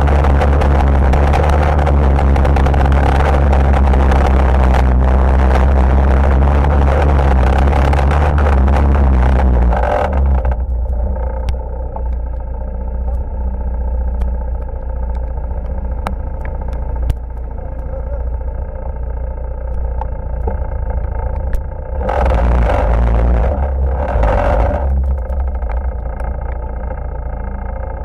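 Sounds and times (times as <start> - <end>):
sharp clicks and knocks: 0.0 - 13.4, 14.1 - 18.0, 19.6 - 27.2
atv engine rumble: 0.0 - 28.0.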